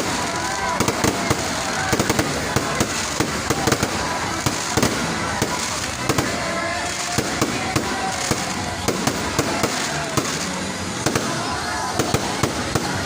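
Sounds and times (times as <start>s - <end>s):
fireworks bangs and crackles: 0.0s - 13.0s
steady background din: 0.0s - 13.0s.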